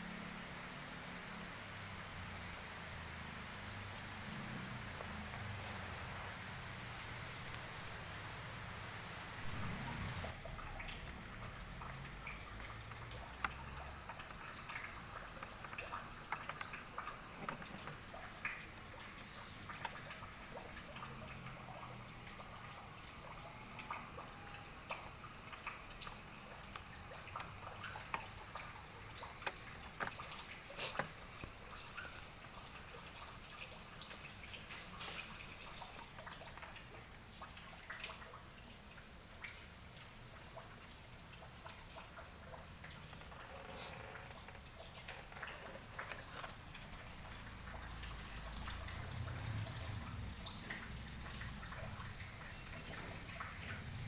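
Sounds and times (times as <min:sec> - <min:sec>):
low hiss: 0:00.0 - 0:54.0.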